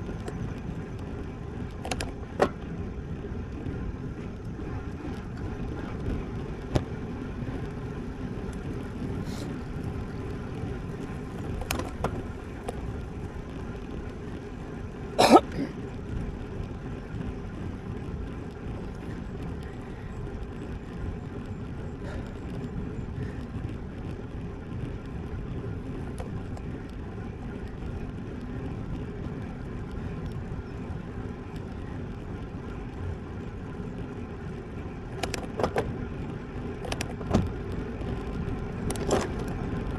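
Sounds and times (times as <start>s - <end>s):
bike tyres on pavement: 0.0s - 39.9s
wind rumble: 0.0s - 39.9s.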